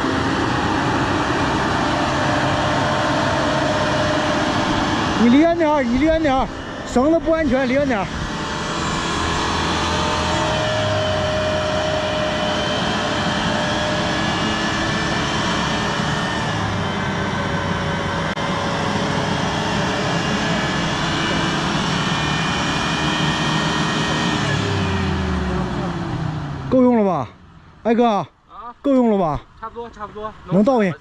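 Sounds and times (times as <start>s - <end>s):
winch whining under load: 0.0s - 28.1s
car engine running: 0.0s - 31.0s.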